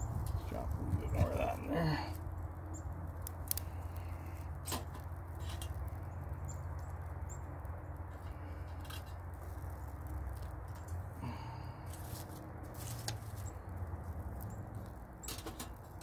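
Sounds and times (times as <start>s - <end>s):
camp stove rumbling: 0.0s - 16.0s
twigs snapping: 2.1s - 16.0s.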